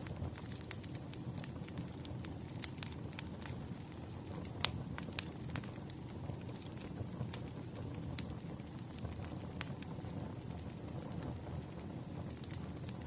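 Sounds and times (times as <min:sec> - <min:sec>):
low rumble of flames: 0:00.0 - 0:13.0
wood crackling and popping: 0:00.0 - 0:13.0.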